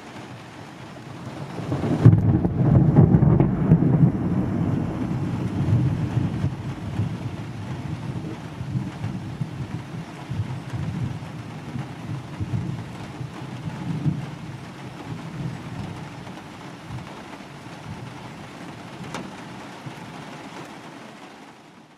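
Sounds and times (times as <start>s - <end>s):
steady rain: 0.0s - 21.9s
thunder rumbling: 1.0s - 20.1s.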